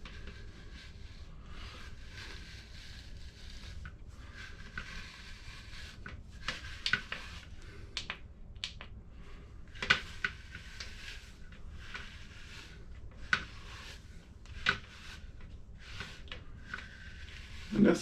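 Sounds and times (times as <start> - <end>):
brush strokes through beard: 0.0 - 8.0, 9.2 - 18.0.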